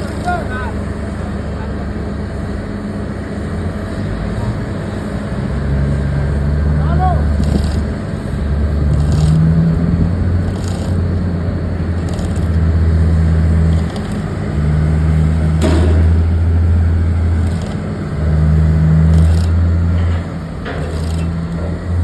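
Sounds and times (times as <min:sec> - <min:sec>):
heavy machinery engine drone: 0:00.0 - 0:22.0.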